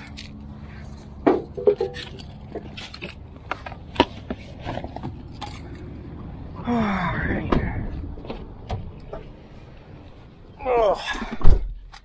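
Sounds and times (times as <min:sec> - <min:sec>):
steady low rumble: 0:00.1 - 0:10.6.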